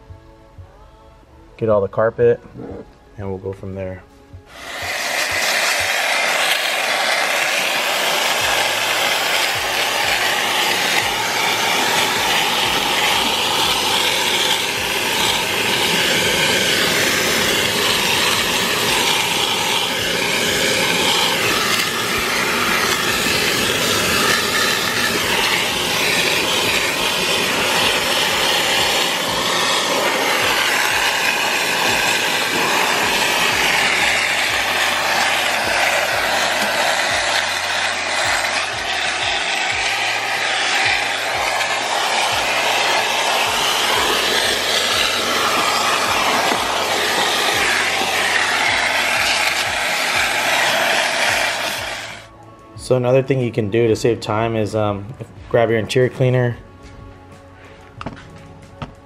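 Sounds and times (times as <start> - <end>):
vacuum cleaner on carpet: 4.5 - 54.5.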